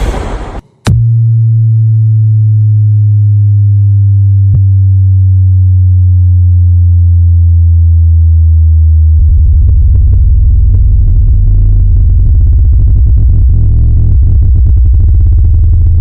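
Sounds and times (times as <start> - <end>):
deep synthesized bass tone: 0.0 - 16.0
fast pulsing bass: 0.0 - 16.0.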